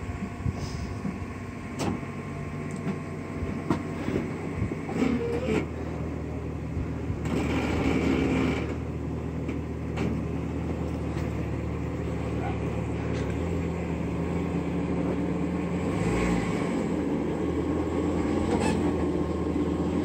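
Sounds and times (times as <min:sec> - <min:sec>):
engine running at low speed: 0:00.0 - 0:20.0.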